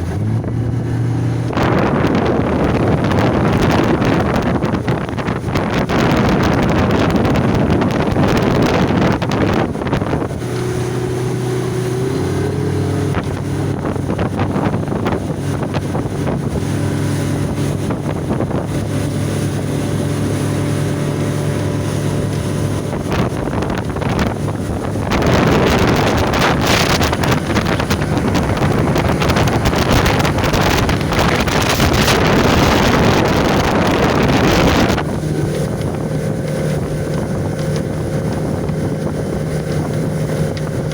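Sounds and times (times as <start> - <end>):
outboard motor running: 0.0 - 40.9
wind buffeting microphone: 0.0 - 40.9.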